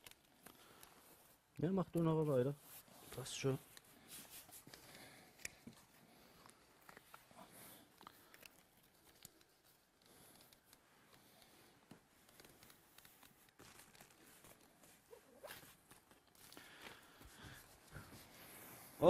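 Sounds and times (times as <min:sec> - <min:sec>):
tape and membrane crinkling: 0:00.0 - 0:19.0.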